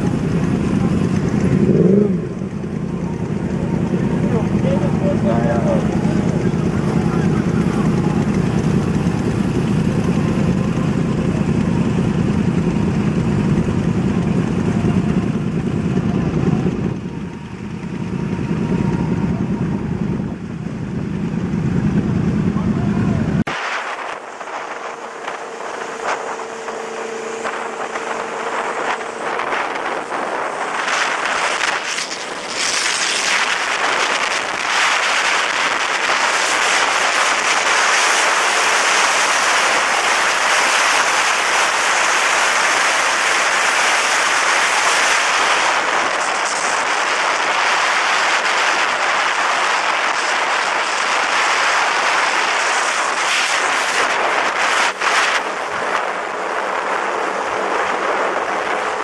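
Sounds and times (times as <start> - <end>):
motorcycle wind and road rush: 0.0 - 59.0.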